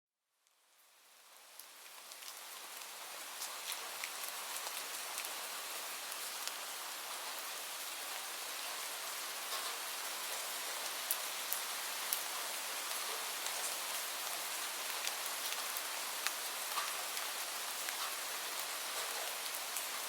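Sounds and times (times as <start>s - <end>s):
steady rain: 0.4s - 20.0s.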